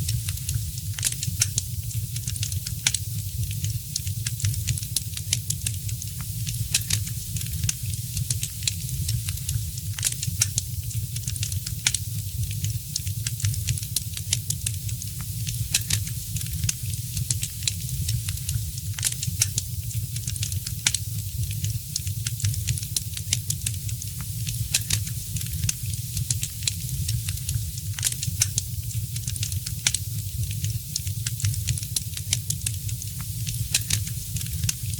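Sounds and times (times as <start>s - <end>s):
fireplace fire crackling: 0.0s - 34.9s
steady hiss and low rumble: 0.0s - 34.9s.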